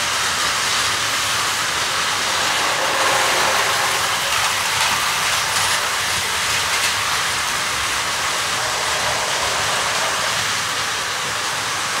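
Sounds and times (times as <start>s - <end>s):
toy train whirring rattle: 0.0s - 12.0s.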